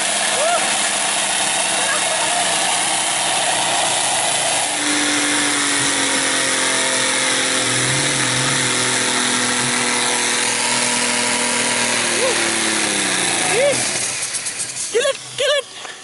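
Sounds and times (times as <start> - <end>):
car engine screaming at high revs: 0.0 - 16.0.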